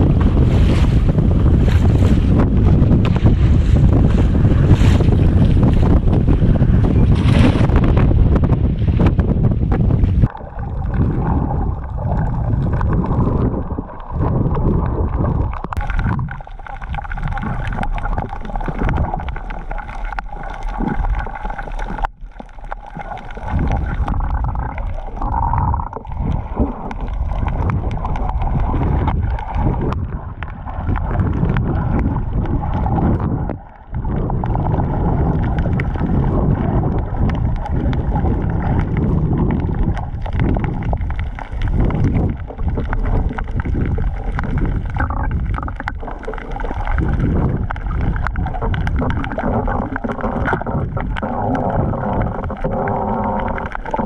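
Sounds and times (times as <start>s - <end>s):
underwater rumble and gurgling: 0.0s - 54.0s.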